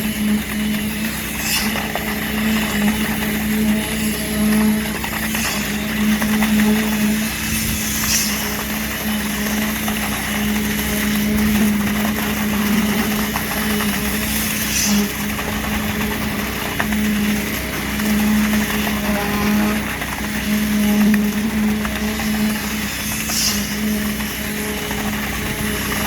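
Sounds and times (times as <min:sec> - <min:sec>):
concrete pump engine hum: 0:00.0 - 0:26.0.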